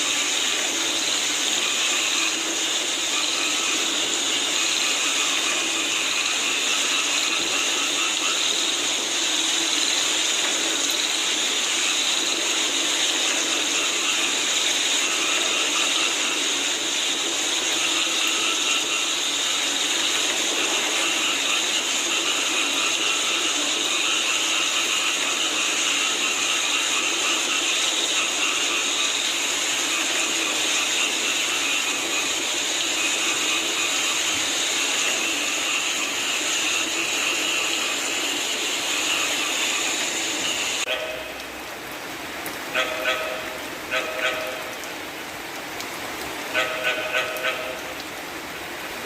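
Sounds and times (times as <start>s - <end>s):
chorus of frogs calling: 0.0s - 42.0s, 42.6s - 44.9s, 46.5s - 48.0s
falling rain: 0.0s - 49.0s.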